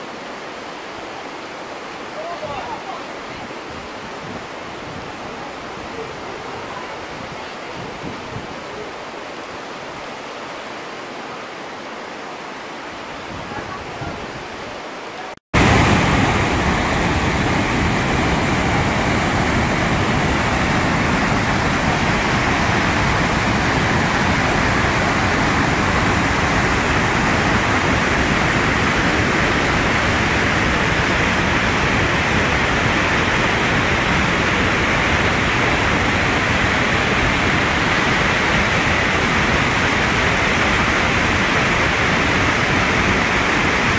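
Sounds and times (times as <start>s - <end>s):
whitewater rushing over rocks: 0.0s - 43.9s.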